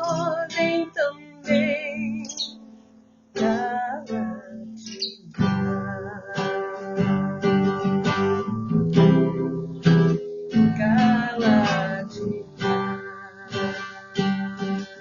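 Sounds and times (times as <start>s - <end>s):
person singing: 0.0s - 2.6s, 3.4s - 9.7s, 10.5s - 15.0s
acoustic guitar strumming: 0.0s - 15.0s.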